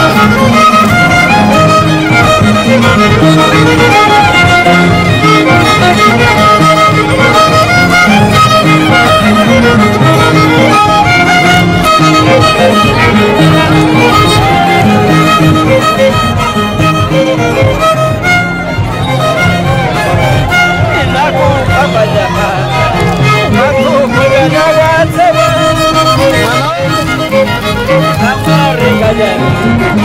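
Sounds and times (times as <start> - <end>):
harp plucked bass notes: 0.0 - 30.0
violin melody: 0.0 - 30.0.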